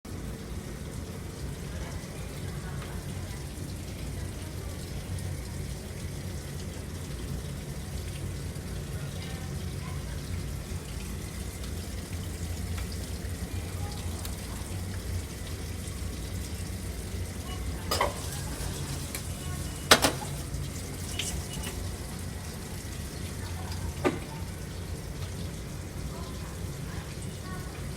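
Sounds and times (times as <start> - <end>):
washing machine humming: 0.1 - 27.9
water running: 0.1 - 27.9.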